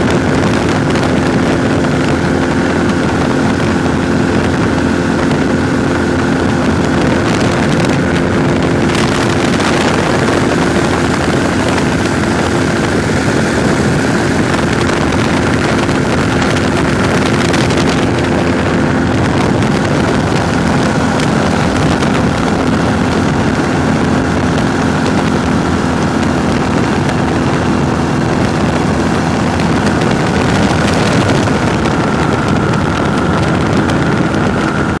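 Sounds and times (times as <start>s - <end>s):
engine and propeller drone: 0.0s - 35.0s
wind rush on microphone: 0.0s - 35.0s.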